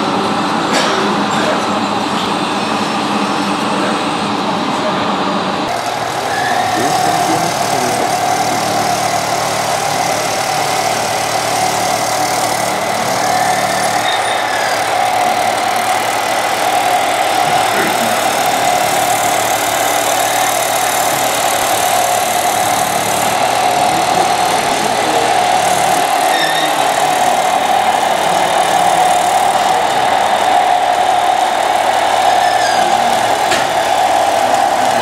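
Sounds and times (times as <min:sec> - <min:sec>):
rc model engine drone: 0:05.6 - 0:35.0.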